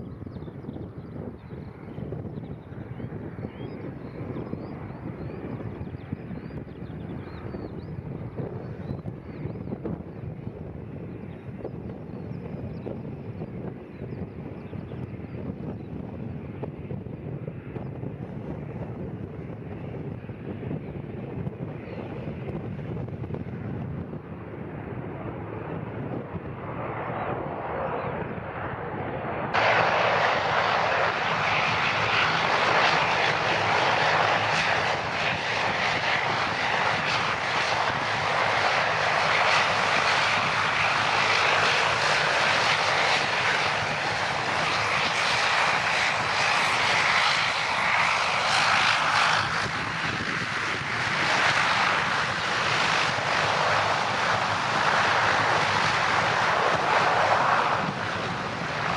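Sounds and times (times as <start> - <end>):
propeller aircraft engine: 0.0 - 58.9.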